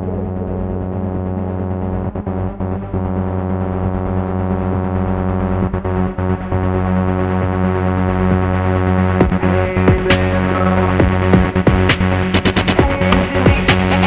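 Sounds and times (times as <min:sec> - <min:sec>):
steady bass: 0:00.0 - 0:14.0
synthesizer pad: 0:00.0 - 0:14.0.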